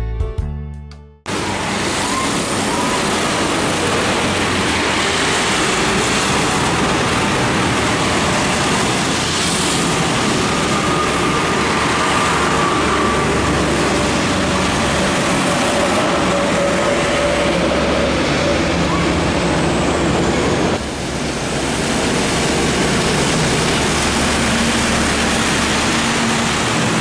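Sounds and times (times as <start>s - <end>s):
truck engine rumble: 1.3s - 27.0s
tyres hissing on wet road: 1.3s - 27.0s.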